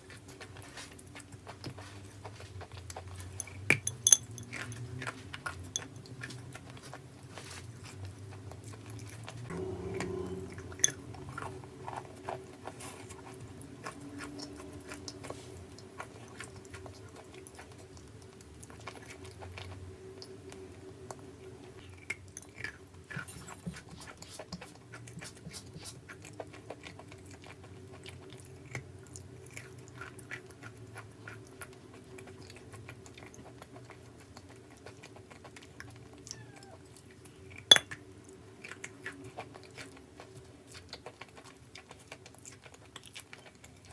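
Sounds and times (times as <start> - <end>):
chewing and crunching clay: 0.0 - 43.9.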